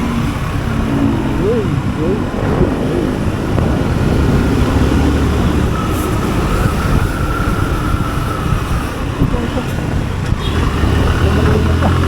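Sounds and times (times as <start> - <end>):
motorcycle engine and traffic rumble: 0.0 - 12.0.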